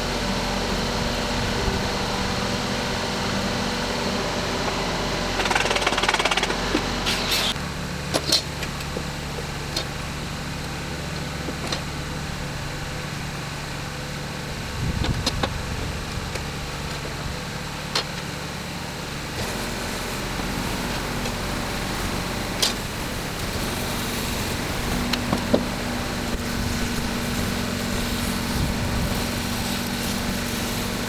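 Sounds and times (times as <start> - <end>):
engine running steadily: 0.0 - 31.0
louder engine rumble: 0.0 - 31.0.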